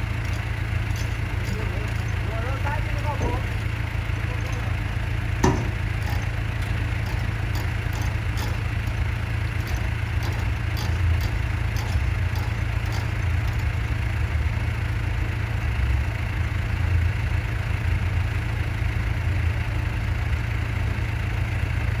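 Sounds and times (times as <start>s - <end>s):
motorboat engine idling: 0.0s - 22.0s.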